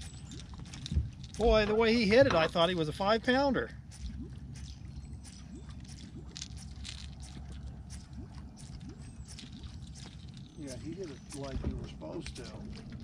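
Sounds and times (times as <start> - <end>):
low steady rumble: 0.0 - 13.0
water lapping against boat hull: 0.0 - 13.0.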